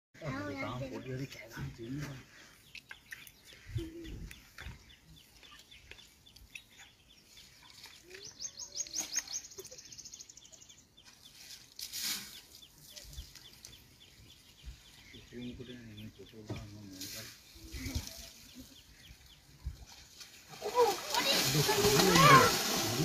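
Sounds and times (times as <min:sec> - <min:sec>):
faint bird chirps: 0:00.7 - 0:20.0.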